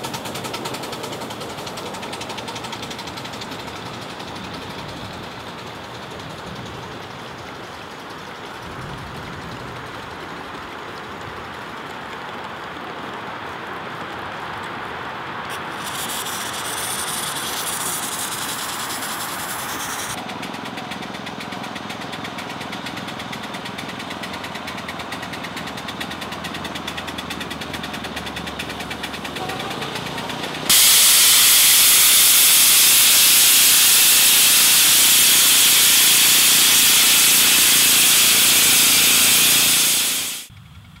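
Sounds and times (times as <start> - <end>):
steam hissing: 0.0 - 8.6, 15.5 - 40.5
small steam locomotives running: 0.0 - 41.0.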